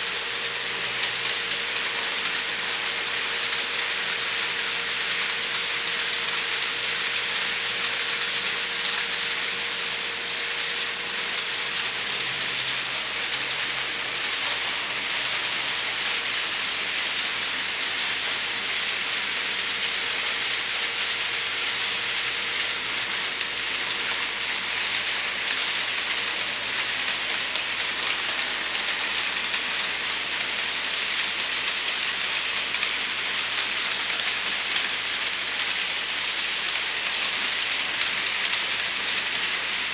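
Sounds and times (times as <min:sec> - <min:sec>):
model train wheels on rail: 0:00.0 - 0:39.9.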